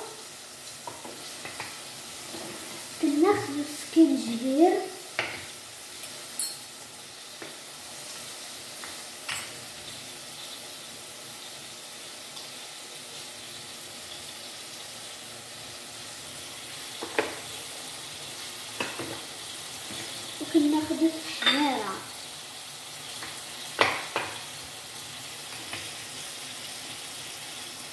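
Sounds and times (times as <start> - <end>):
meat and onion sizzling in oil: 0.0 - 27.9.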